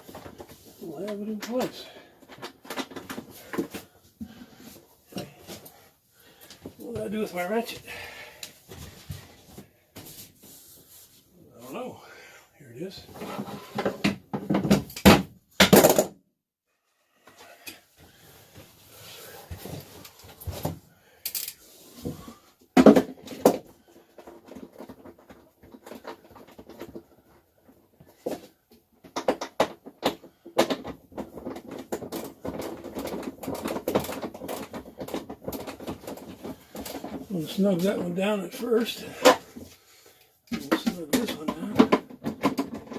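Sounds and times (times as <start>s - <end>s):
clatter of hand tools and hardware: 0.0s - 9.6s, 17.3s - 42.9s.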